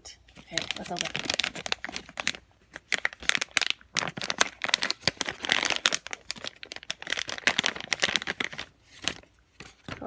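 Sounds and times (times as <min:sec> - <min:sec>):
plastic packaging crinkling: 0:00.3 - 0:10.0.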